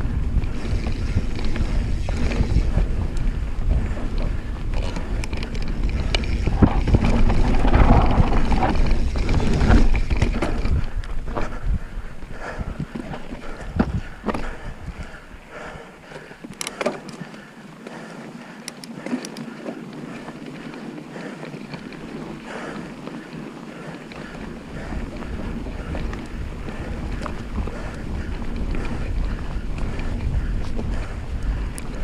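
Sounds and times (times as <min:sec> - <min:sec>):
bike clicks and rattles: 0:00.0 - 0:32.0
bike tyre noise: 0:00.0 - 0:32.0
wind rumbling on microphone: 0:00.0 - 0:32.0.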